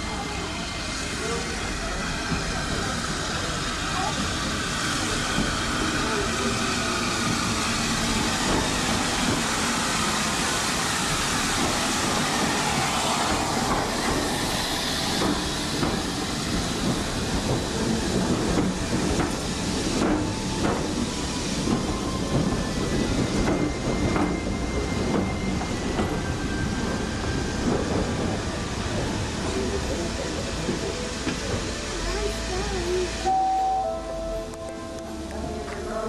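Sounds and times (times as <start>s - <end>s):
steam locomotive hissing: 0.0s - 36.0s.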